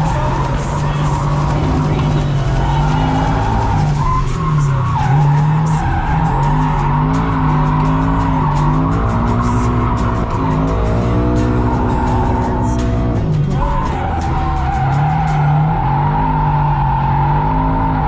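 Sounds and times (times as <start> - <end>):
car engine revving high: 0.0 - 18.0
tyres squealing: 0.0 - 18.0.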